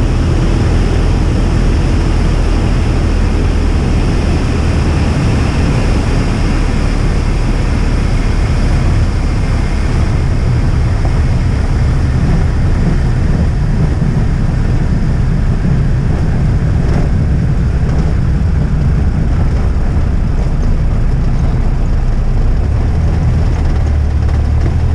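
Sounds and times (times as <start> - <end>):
aircraft engine droning: 0.0 - 24.9
rushing noise: 0.0 - 24.9.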